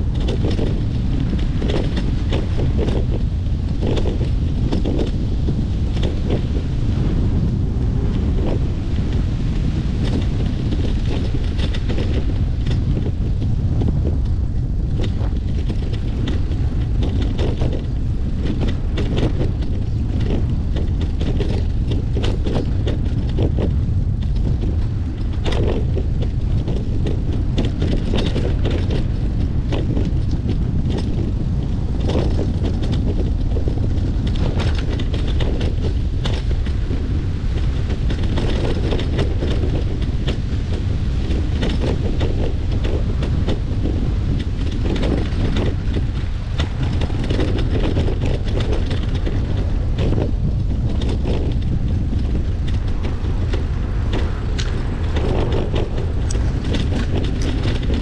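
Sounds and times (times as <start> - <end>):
bicycle knocks and rattles: 0.0 - 58.0
wind buffeting microphone: 0.0 - 58.0.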